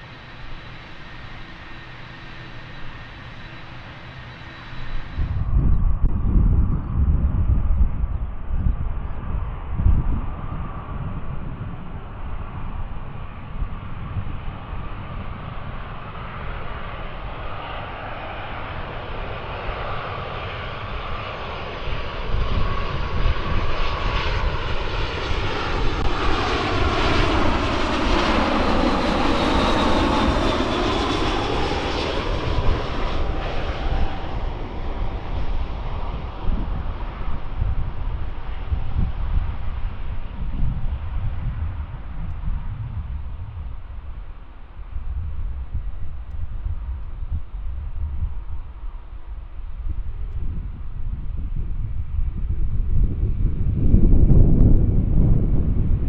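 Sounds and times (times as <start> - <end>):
jet airliner passing by: 0.0 - 56.0
wind rumble on microphone: 0.0 - 56.0.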